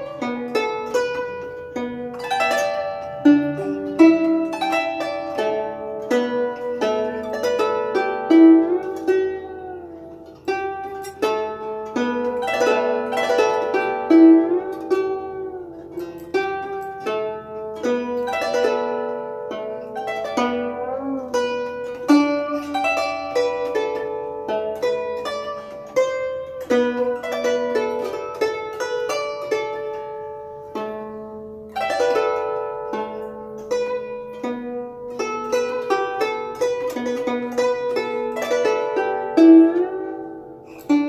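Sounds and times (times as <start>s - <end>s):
guzheng melody plucked: 0.0s - 41.0s.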